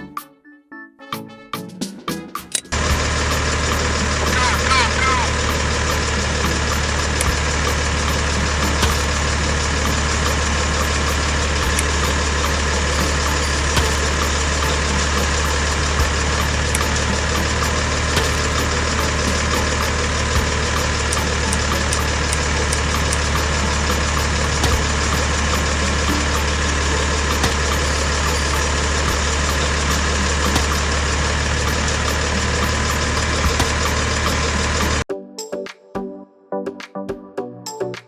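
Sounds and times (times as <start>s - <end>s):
engine idling: 2.7s - 35.0s.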